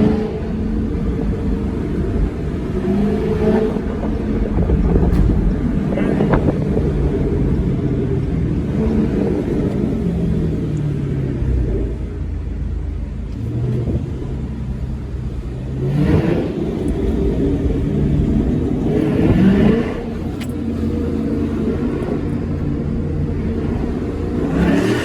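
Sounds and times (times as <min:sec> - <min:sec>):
car exhaust revving: 0:00.0 - 0:25.0.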